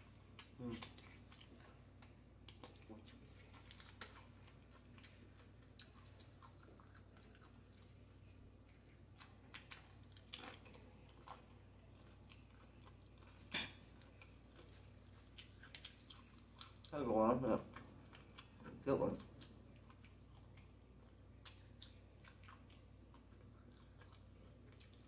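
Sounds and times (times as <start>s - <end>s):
chewing crunchy chips: 0.3s - 25.0s.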